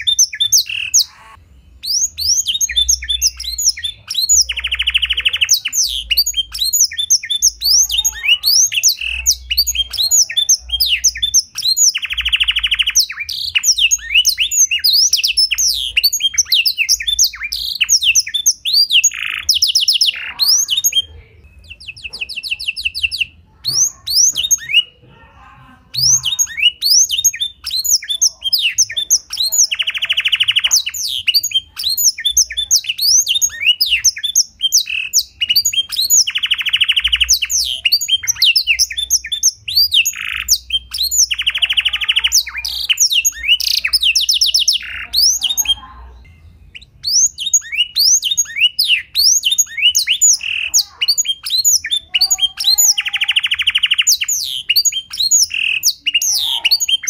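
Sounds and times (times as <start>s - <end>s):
canary buzzy trills: 0.0s - 57.0s
canary singing: 0.0s - 57.0s.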